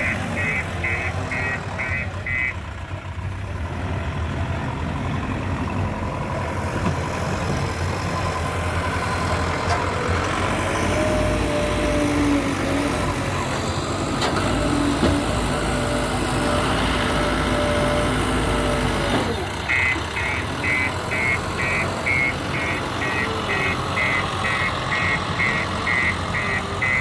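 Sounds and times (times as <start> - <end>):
diesel engine rumbling: 0.0 - 27.0.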